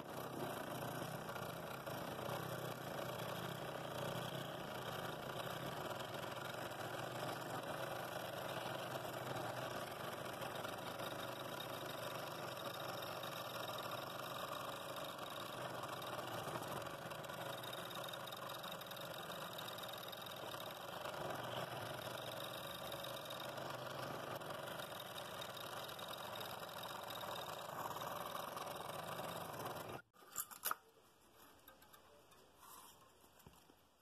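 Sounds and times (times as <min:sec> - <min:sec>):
scroll saw cutting wood: 0:00.0 - 0:30.1.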